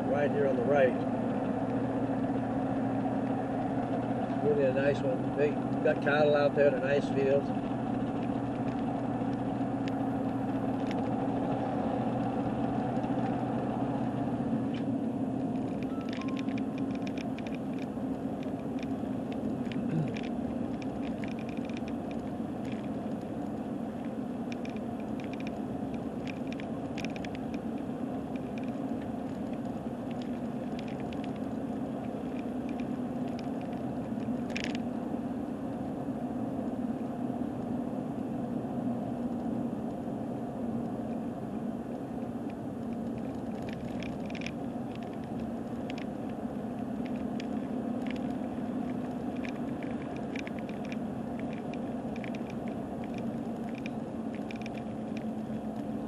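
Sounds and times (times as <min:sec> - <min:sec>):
car engine and tyres droning: 0:00.0 - 0:56.0
light rattles and clicks: 0:00.1 - 0:35.0, 0:41.9 - 0:56.0.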